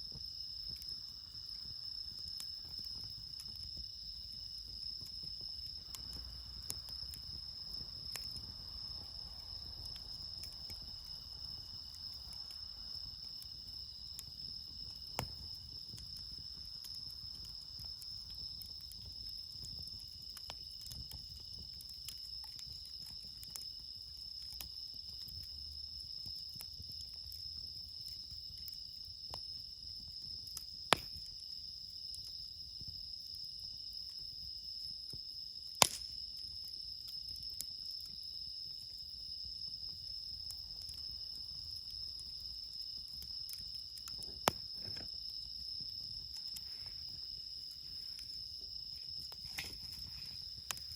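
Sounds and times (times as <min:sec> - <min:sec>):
campfire popping and crackling: 0:00.0 - 0:50.9
crickets chirring: 0:00.0 - 0:50.9.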